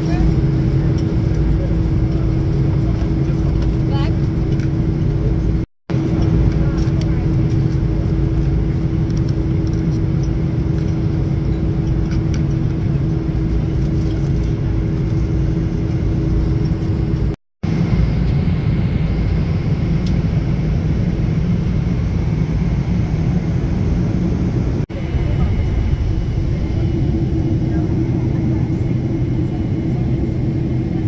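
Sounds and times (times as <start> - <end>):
airplane cabin engine rumble: 0.0 - 31.0
steady low hum: 0.0 - 31.0.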